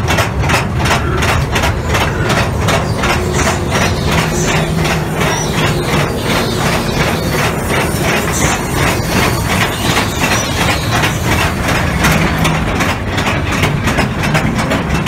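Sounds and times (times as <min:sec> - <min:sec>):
roller coaster cars clattering: 0:00.0 - 0:15.0
low steady hum: 0:00.4 - 0:12.9.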